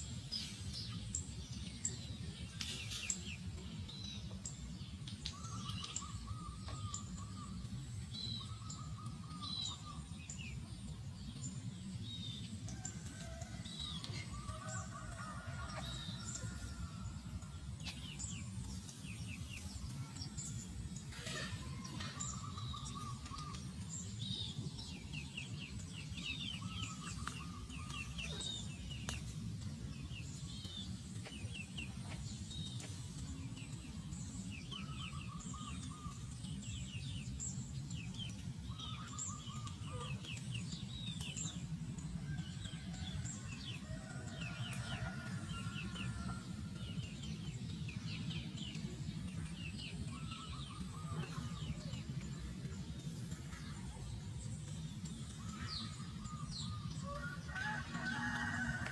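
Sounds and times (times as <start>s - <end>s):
steady low rumble: 0.0s - 58.0s
birds chirping: 0.0s - 58.9s.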